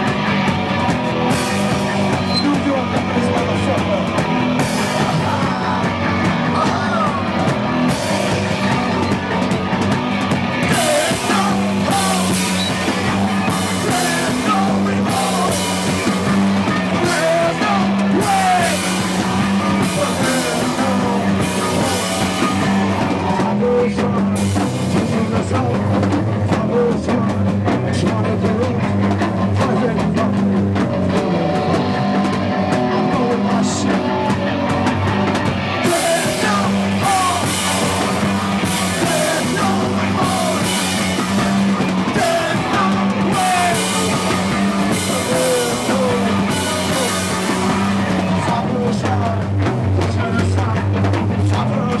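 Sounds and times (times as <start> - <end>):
drum kit: 0.0 - 52.0
guitar: 0.0 - 52.0
live rock band playing: 0.0 - 52.0.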